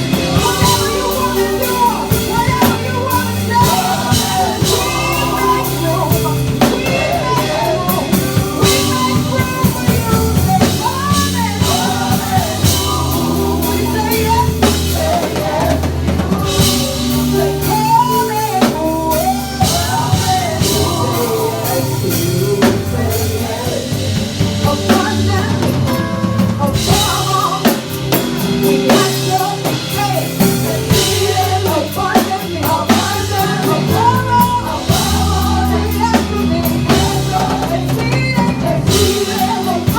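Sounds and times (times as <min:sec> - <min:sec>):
church worship band: 0:00.0 - 0:39.9
drum kit beat: 0:00.0 - 0:39.9
person singing melody: 0:00.0 - 0:39.9.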